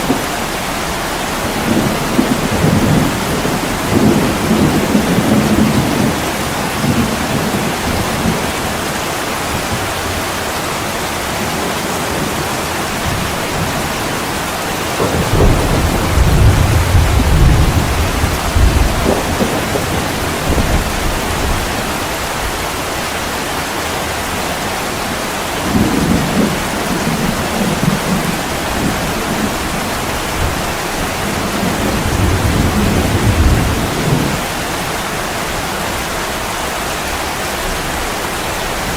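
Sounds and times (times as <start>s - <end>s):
rolling thunder rumbling: 0.0s - 23.4s, 24.9s - 38.9s
heavy rain against a window: 0.0s - 38.9s.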